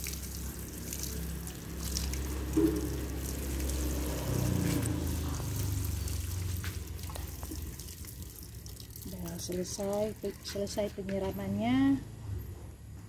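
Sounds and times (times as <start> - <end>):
watering can splashing water: 0.0 - 10.8.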